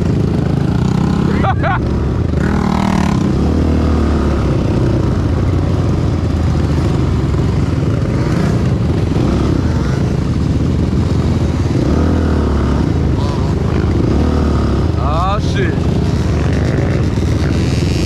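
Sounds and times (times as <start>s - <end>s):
two-stroke engine running loudly: 0.0s - 18.0s.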